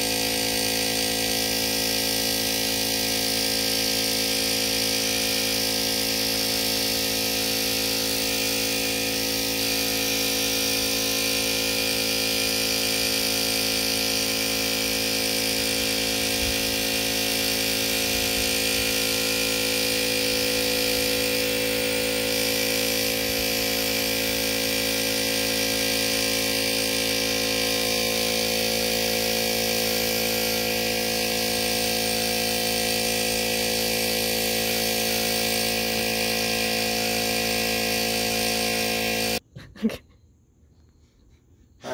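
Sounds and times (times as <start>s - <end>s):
air compressor running: 0.0s - 39.4s
spray gun air hiss: 0.0s - 39.4s.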